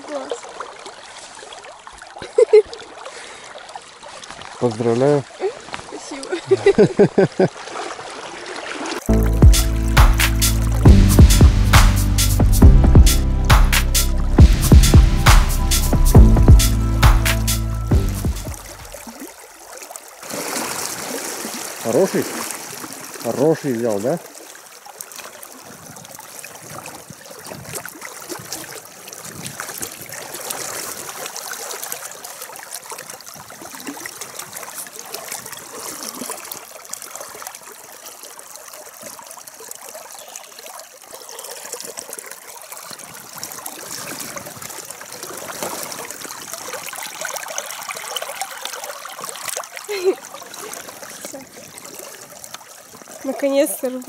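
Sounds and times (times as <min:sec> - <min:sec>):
river trickling and babbling: 0:00.0 - 0:54.0.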